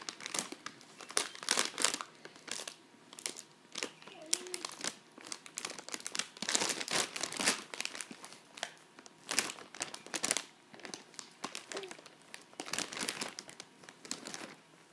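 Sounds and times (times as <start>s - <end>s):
chip bag crinkling: 0.0s - 14.6s.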